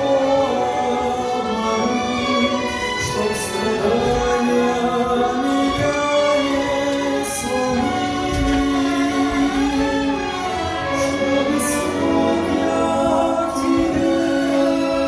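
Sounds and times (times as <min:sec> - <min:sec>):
slow music with held notes: 0:00.0 - 0:15.0
wordless choral singing: 0:00.0 - 0:15.0.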